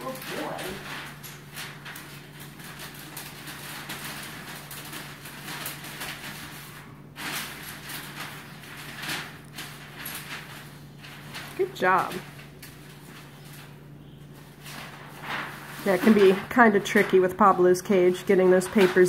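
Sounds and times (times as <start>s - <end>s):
paper rustling and scraping: 0.0s - 19.0s.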